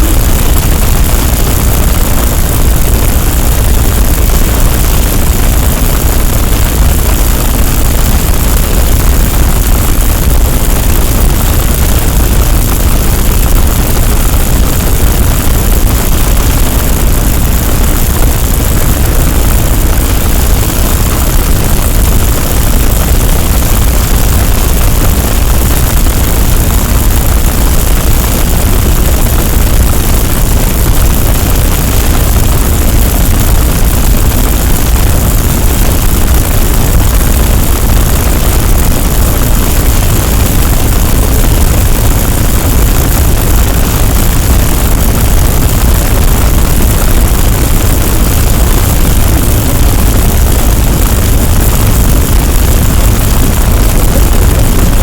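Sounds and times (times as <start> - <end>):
dense noise with deep rumble: 0.0 - 55.0.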